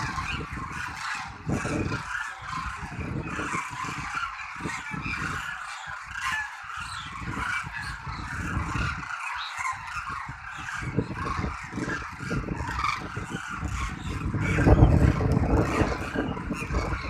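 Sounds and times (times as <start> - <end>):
cranes trumpeting: 0.0 - 17.0
wind buffeting microphone: 0.0 - 17.0.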